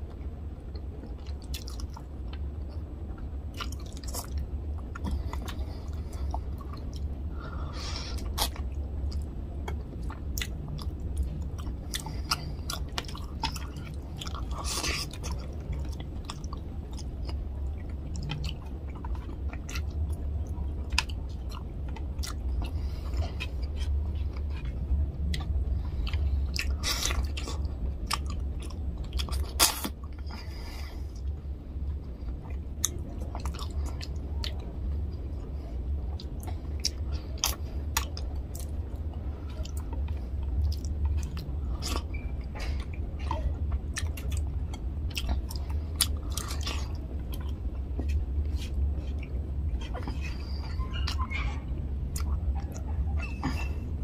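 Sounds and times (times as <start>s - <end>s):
steady low hum: 0.0s - 54.0s
close chewing: 3.5s - 31.4s, 36.1s - 53.8s.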